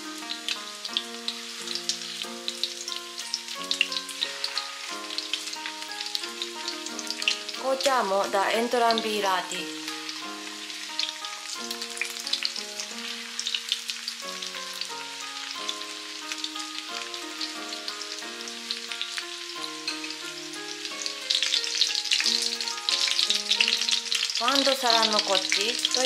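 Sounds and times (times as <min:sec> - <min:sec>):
chicken sizzling in frying oil: 0:00.0 - 0:26.0
soft background melody: 0:00.0 - 0:26.0.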